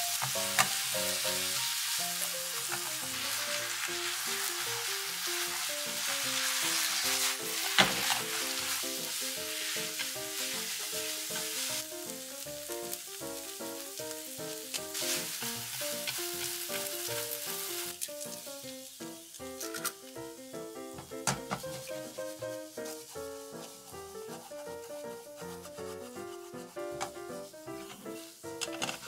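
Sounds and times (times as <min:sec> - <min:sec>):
noodles sizzling in a frying pan: 0:00.0 - 0:29.0.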